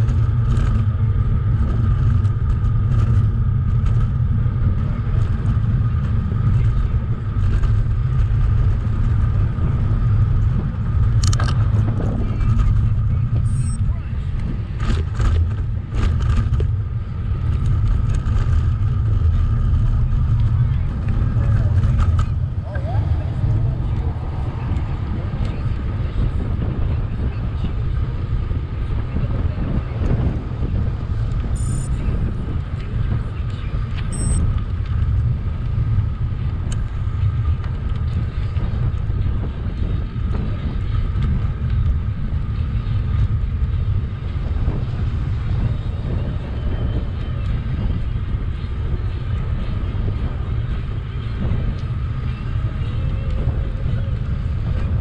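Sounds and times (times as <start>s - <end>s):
motorcycle engine rumbling: 0.0s - 55.0s
wind buffeting microphone: 0.0s - 55.0s.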